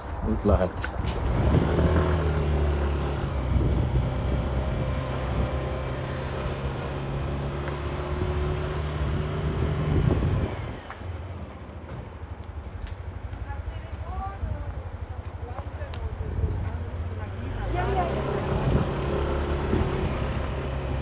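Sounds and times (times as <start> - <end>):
scooter engine running: 1.0 - 21.0.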